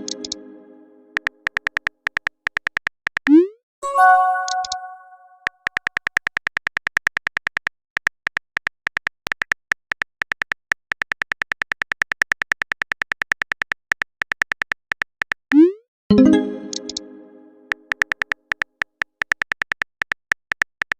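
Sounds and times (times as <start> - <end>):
synthetic keyboard typing clicks: 0.0 - 0.4, 1.2 - 20.9.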